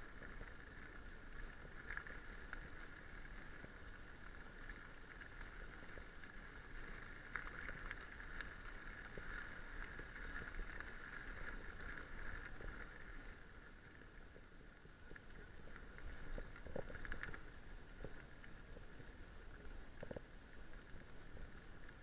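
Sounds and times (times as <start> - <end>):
small clicks and rattles: 0.0 - 22.0.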